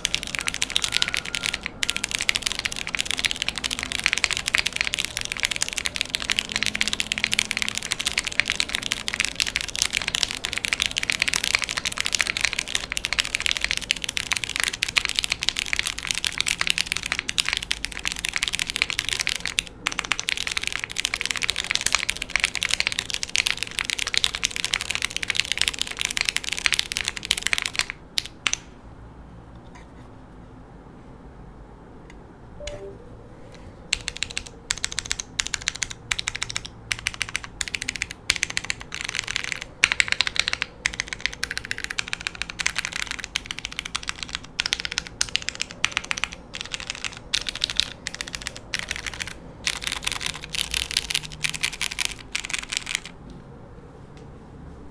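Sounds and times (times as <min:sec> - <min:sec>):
mechanical keyboard typing: 0:00.0 - 0:28.7, 0:32.6 - 0:32.9, 0:33.9 - 0:53.2.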